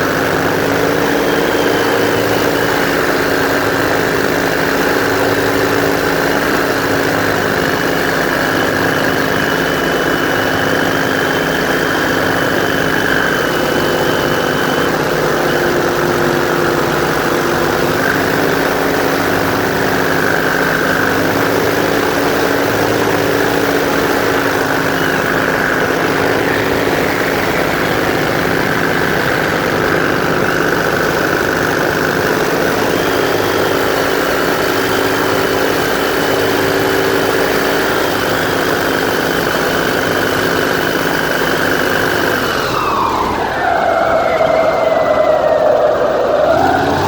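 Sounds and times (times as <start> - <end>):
airboat engine drone: 0.0 - 47.0.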